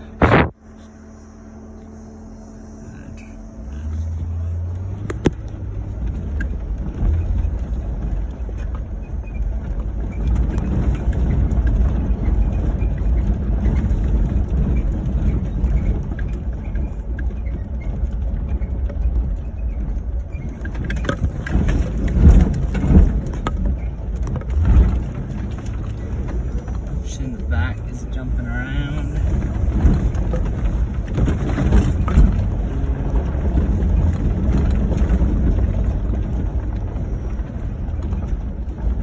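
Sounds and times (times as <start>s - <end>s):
car engine and tyres rumbling: 0.0s - 39.0s
car knocking and rattling: 3.8s - 39.0s.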